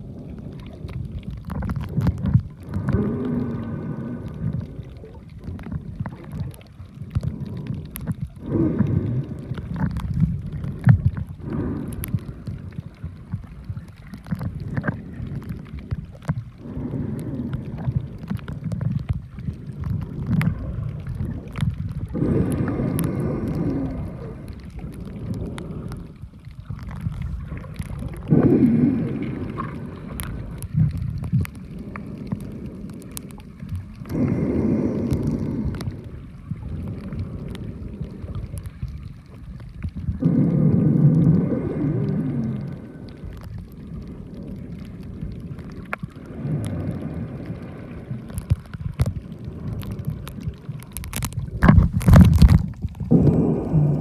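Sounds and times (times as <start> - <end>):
muffled underwater rumbling and gurgling: 0.0 - 54.0.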